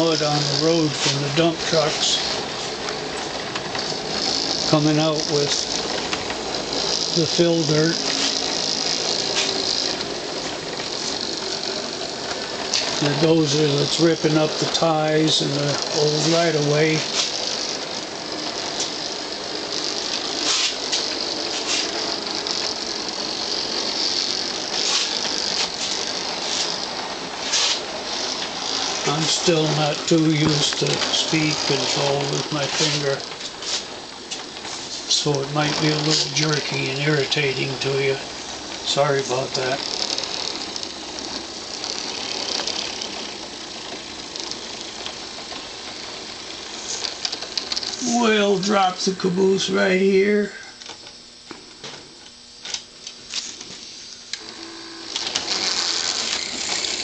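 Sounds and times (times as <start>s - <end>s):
model locomotive whirring: 0.0s - 57.0s.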